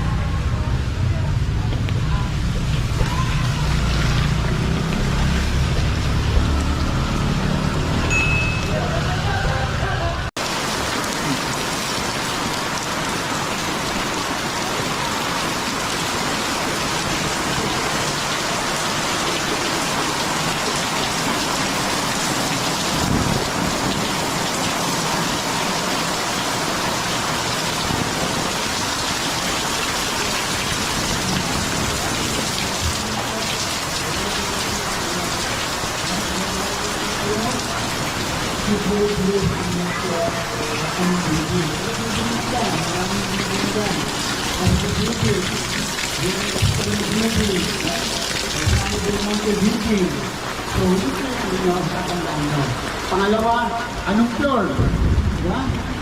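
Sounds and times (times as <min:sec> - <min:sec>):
heavy rain pattering: 0:00.0 - 0:08.1, 0:08.7 - 0:56.0.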